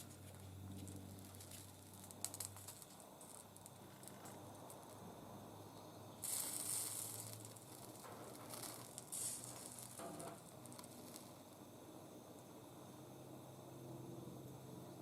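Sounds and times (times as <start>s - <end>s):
solder flux sizzling: 0.0s - 15.0s.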